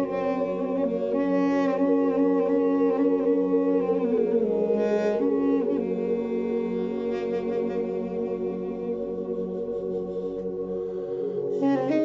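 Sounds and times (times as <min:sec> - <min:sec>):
double-reed woodwind melody: 0:00.0 - 0:12.0.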